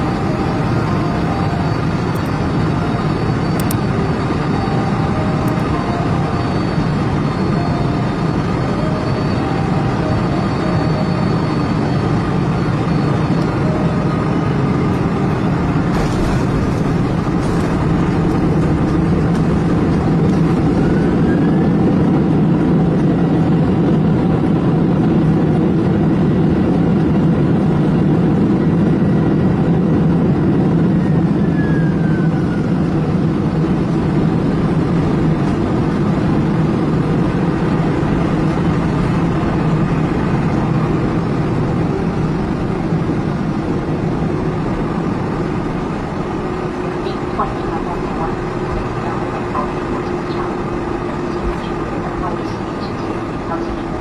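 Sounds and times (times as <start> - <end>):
aircraft engine drone: 0.0 - 54.0
faint whine: 0.0 - 54.0.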